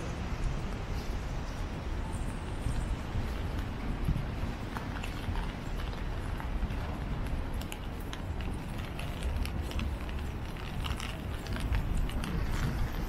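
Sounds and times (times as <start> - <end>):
low city rumble: 0.0 - 13.0
rain and footsteps on wet pavement: 0.0 - 13.0.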